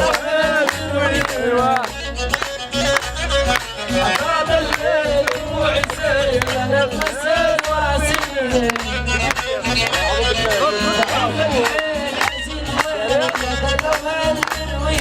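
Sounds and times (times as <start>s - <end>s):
bass: 0.0s - 15.0s
steady drum beat: 0.0s - 15.0s.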